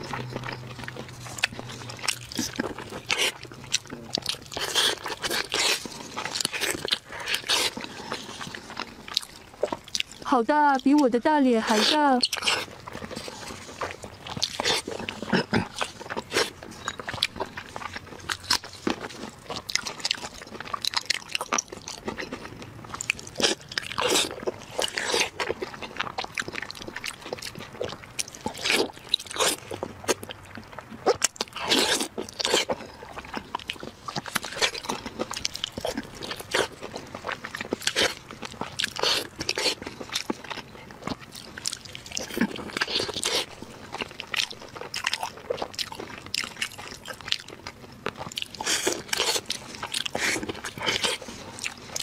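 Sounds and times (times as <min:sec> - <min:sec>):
biting and chewing meat: 0:00.0 - 0:52.0.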